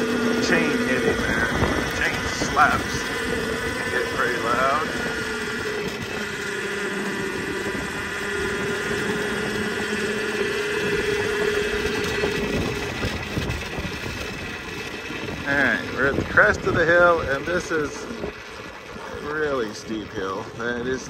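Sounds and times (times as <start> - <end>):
electric motorcycle motor whine: 0.0 - 21.0.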